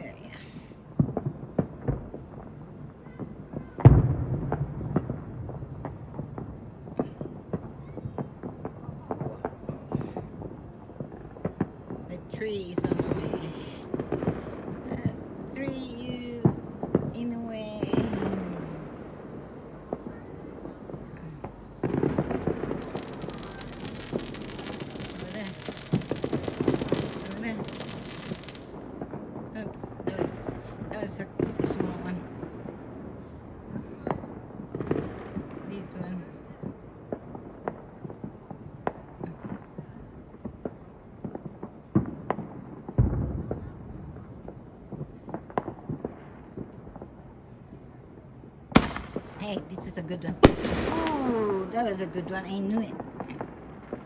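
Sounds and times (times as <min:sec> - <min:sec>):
distant fireworks popping and crackling: 0:00.0 - 0:54.0.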